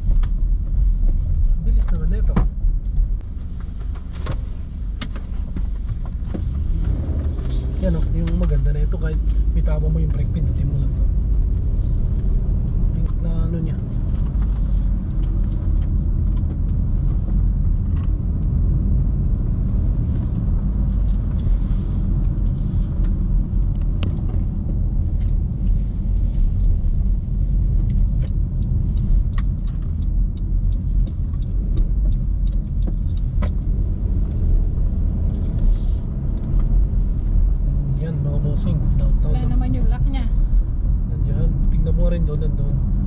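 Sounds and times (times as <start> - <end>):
car road noise rumble: 0.0 - 43.0.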